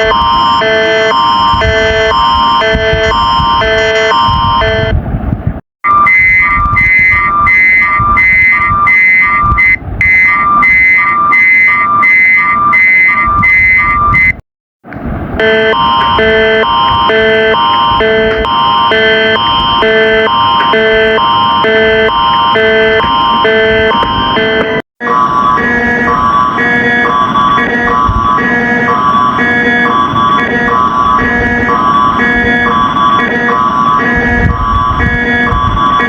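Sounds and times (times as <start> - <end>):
constant high tone: 0.0 - 5.0, 5.8 - 14.4, 15.4 - 36.0
electronic alarm alternating chords: 0.0 - 5.0, 5.8 - 14.4, 15.4 - 36.0.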